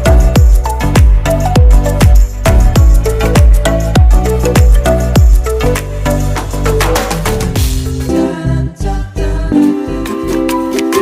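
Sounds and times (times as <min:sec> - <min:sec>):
song with beat and vocals: 0:00.0 - 0:11.0.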